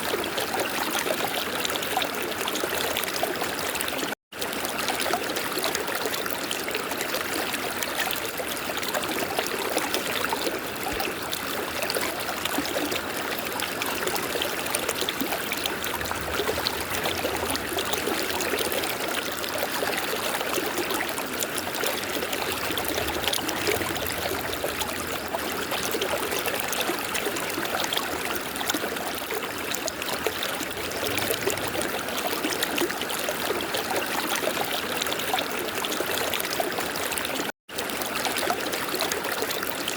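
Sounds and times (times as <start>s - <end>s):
river water running over stones: 1.6s - 39.9s.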